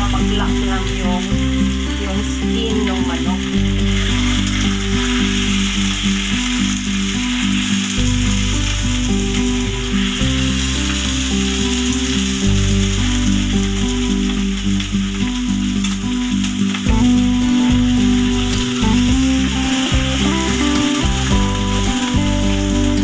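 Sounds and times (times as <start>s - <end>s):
background music with low notes: 0.0s - 23.0s
food sizzling in a wok: 0.0s - 23.0s.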